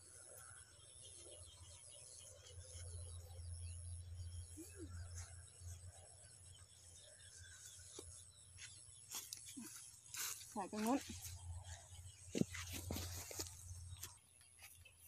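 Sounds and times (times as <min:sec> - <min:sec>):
small bird chirps: 0:00.0 - 0:15.0.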